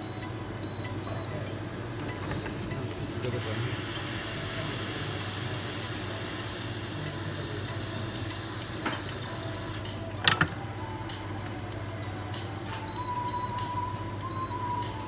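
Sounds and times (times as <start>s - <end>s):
electrical equipment hum and hiss: 0.0s - 15.0s.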